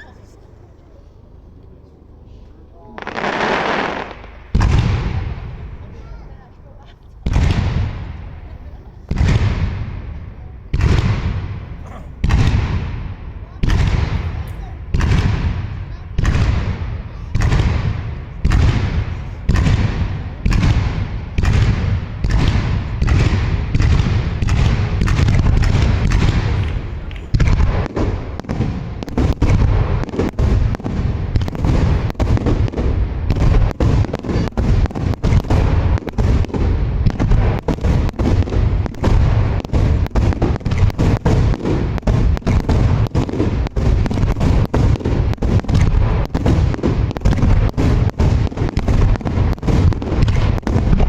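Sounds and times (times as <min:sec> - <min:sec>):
rapid firework bangs: 0:03.0 - 0:06.5, 0:07.2 - 0:51.0.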